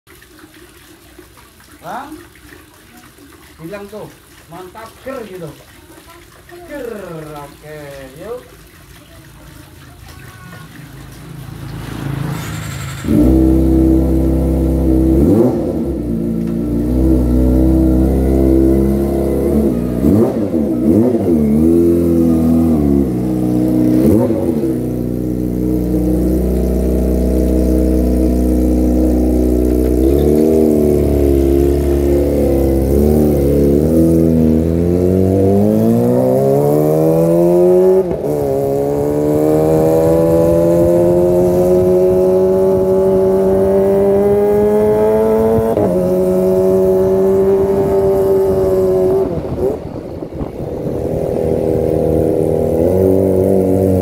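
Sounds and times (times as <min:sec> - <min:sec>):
motorcycle engine revving: 0:10.8 - 0:54.0.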